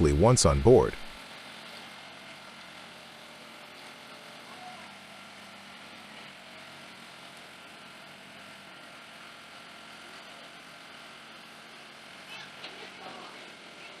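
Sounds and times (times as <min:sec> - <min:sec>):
idling vehicle engines hum: 0:00.0 - 0:14.0.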